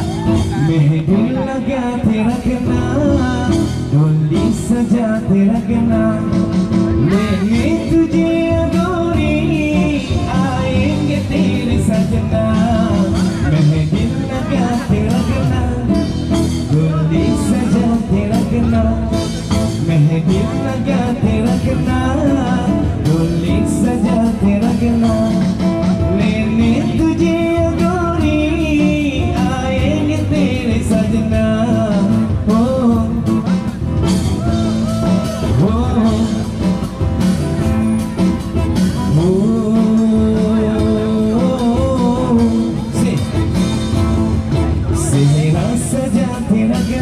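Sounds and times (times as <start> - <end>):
band playing live: 0.0 - 47.0
person singing: 0.0 - 47.0.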